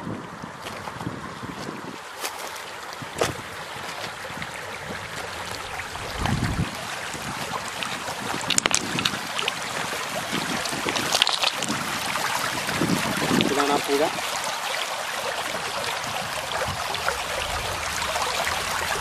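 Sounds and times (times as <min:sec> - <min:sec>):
wind buffeting microphone: 0:00.0 - 0:02.1, 0:03.0 - 0:14.4, 0:15.4 - 0:19.0
stream rushing over pebbles: 0:00.0 - 0:19.0
water splashes: 0:00.3 - 0:19.0.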